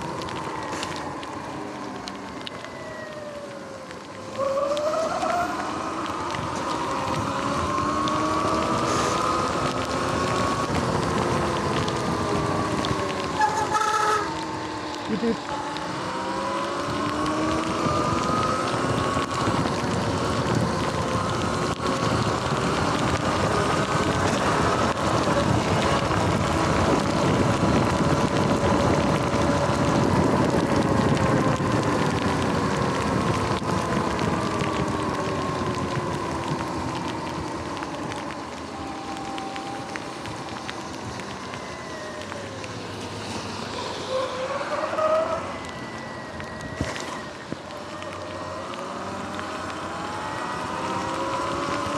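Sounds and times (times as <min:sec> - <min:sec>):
rain: 0:00.0 - 0:51.9
wind: 0:00.0 - 0:51.9
wet tyres hissing: 0:04.2 - 0:51.9.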